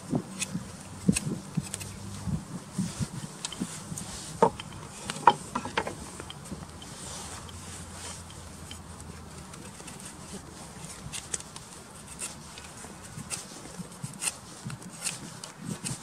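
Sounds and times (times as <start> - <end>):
knife scraping wood: 0.3 - 16.0.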